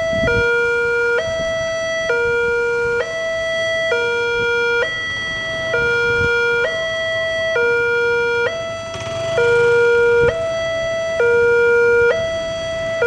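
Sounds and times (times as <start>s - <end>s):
level-crossing two-tone alarm: 0.0s - 13.0s.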